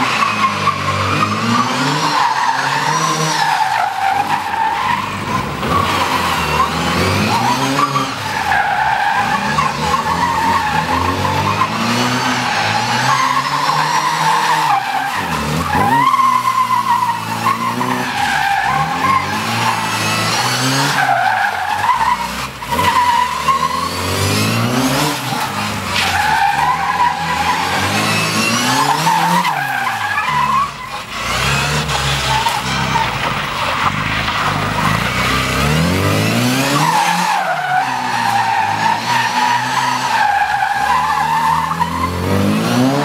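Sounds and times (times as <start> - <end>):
tyres squealing: 0.0 - 35.5, 36.5 - 42.4
car engine revving: 0.0 - 43.0.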